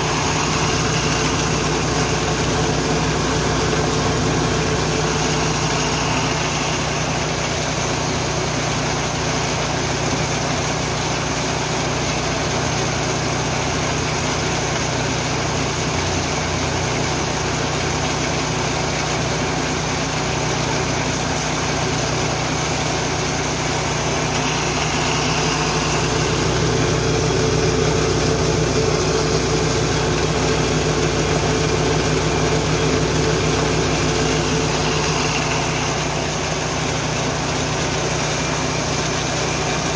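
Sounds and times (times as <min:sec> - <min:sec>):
engine-driven mill running: 0:00.0 - 0:39.9.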